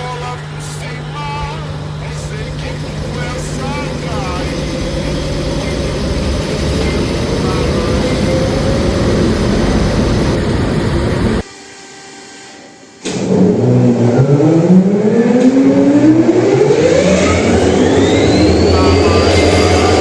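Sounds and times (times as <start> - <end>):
diesel locomotive engine running: 0.0 - 11.4, 13.1 - 20.0
turbocharger rising whine: 0.0 - 11.5, 12.5 - 20.0.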